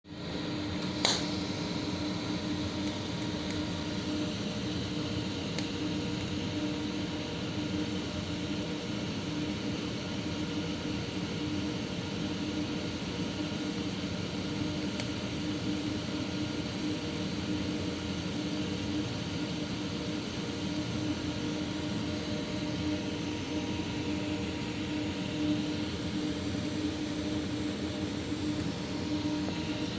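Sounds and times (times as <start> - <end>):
constant hum: 0.1 - 29.9
welding arc hiss: 0.5 - 29.9.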